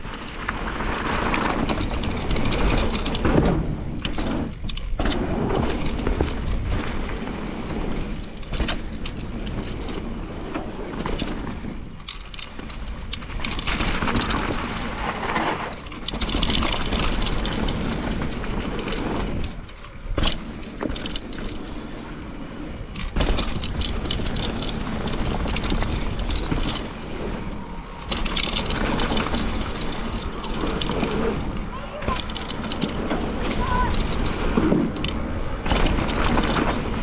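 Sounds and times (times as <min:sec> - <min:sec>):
bike tyre and rattling noise: 0:00.0 - 0:37.0.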